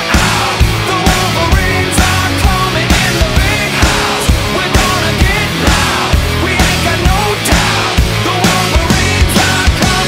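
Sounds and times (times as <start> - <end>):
rock music with heavy drums: 0.0 - 10.0.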